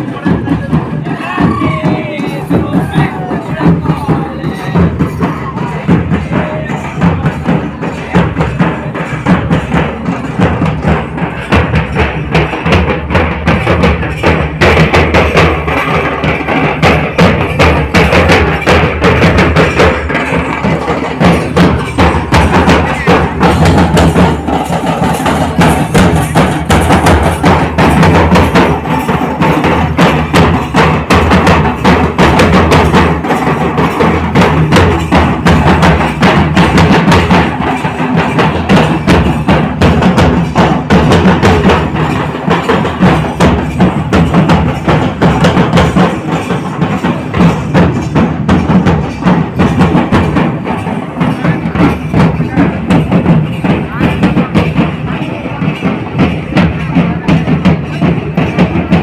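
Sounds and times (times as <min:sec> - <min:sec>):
large drums beaten fast: 0:00.0 - 0:59.0.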